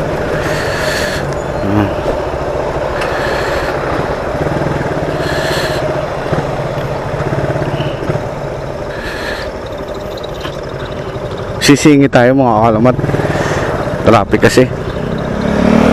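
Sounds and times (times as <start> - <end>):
motorcycle engine running: 0.0 - 15.9
road and traffic noise: 0.0 - 15.9.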